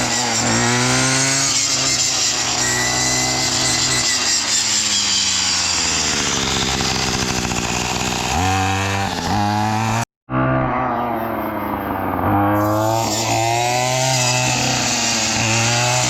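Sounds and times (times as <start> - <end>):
string trimmer engine cutting brush: 0.0 - 10.0, 12.2 - 16.0.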